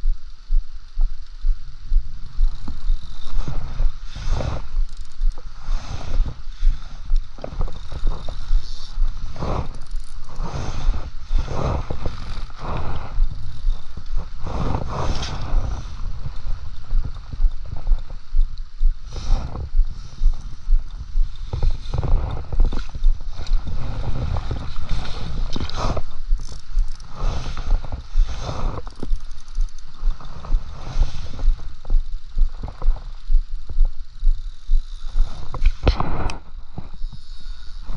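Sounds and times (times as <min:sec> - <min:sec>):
wind buffeting microphone: 0:00.0 - 0:36.8
fishing reel cranking: 0:01.2 - 0:19.6, 0:20.3 - 0:35.9, 0:36.9 - 0:37.9.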